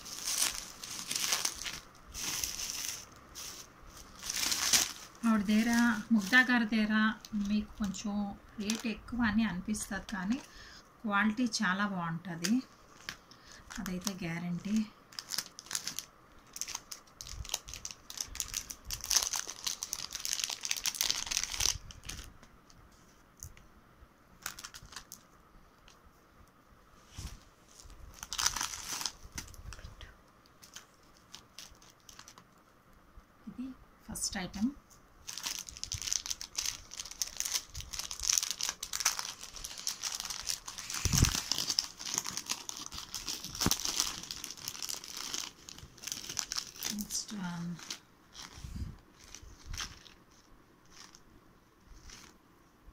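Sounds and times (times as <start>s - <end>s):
plastic packaging crinkling: 0.0s - 10.7s, 11.3s - 22.5s, 24.4s - 26.0s, 27.2s - 32.7s, 35.2s - 51.3s, 51.9s - 52.4s.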